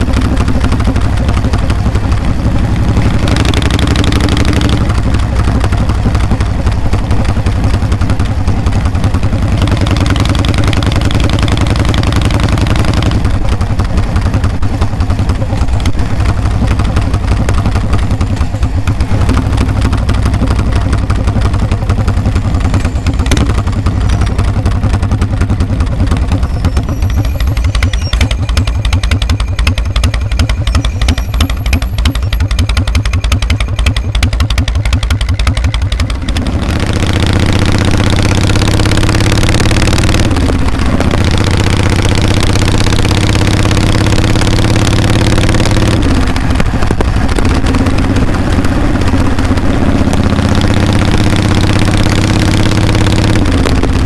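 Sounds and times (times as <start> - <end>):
motorcycle exhaust: 0.0 - 54.0.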